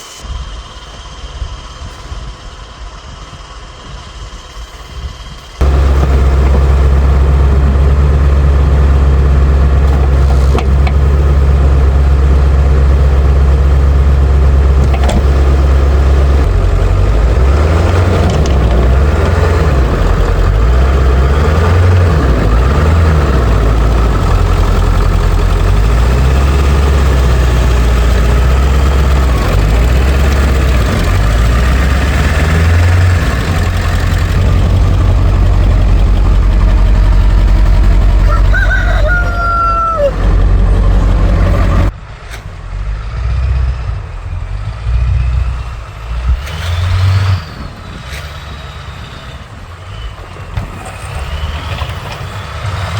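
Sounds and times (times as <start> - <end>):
diesel truck engine revving: 0.0 - 52.9.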